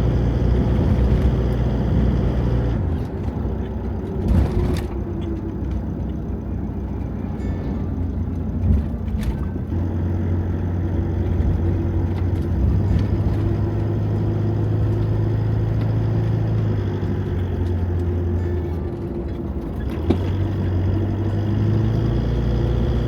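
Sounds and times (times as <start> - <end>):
van engine running: 0.0 - 23.0.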